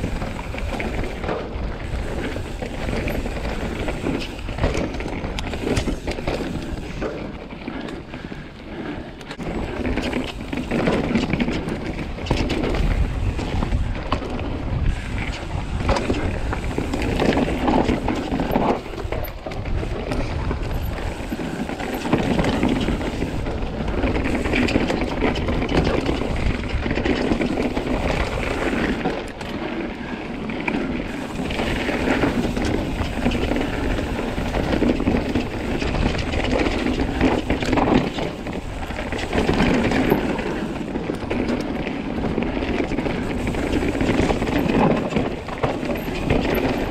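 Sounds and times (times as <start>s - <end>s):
bike chain and frame rattling: 0.0s - 46.9s
bike tyres rolling over dirt: 0.0s - 46.9s
wind buffeting microphone: 0.0s - 46.9s.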